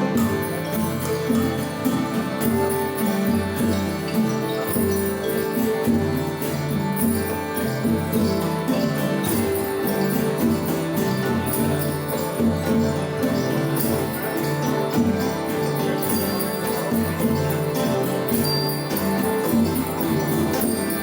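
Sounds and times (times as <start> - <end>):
acoustic folk instruments drone: 0.0 - 21.0
bright percussion strokes: 0.0 - 21.0.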